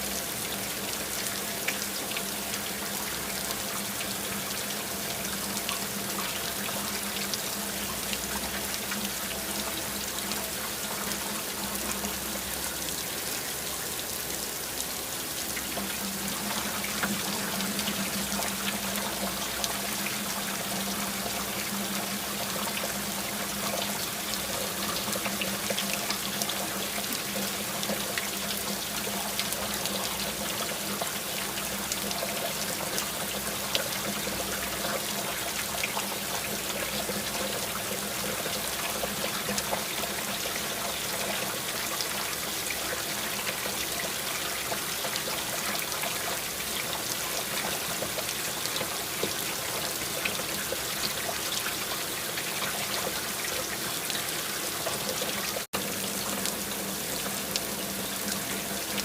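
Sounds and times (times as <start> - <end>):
rain falling: 0.0 - 59.0
trickling water: 0.0 - 59.0.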